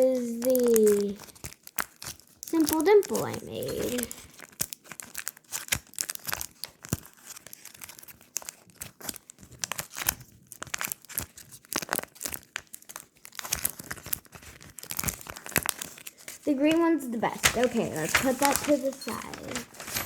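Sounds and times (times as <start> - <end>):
plastic crinkling and clicking: 0.0 - 20.0.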